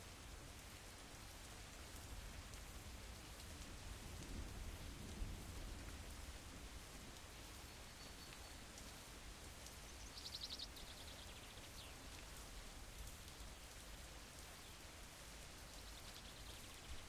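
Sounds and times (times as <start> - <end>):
faint rain: 0.0 - 17.0.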